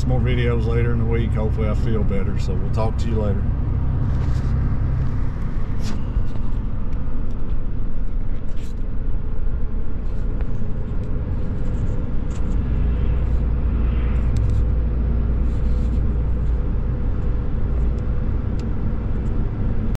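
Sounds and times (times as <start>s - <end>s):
engine and road rumble inside cab: 0.0s - 19.9s.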